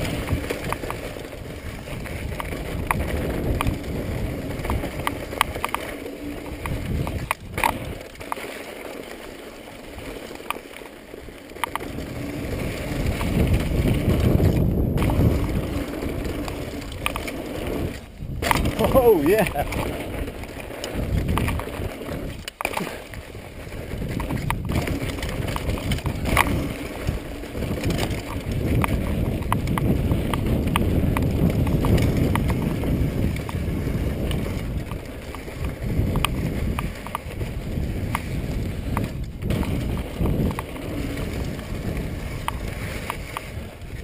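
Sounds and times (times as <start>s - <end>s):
wind on microphone: 0.0s - 8.2s, 11.7s - 44.0s
bike clicking and rattling: 0.0s - 44.0s
bike tyres rumbling on dirt: 0.0s - 44.0s.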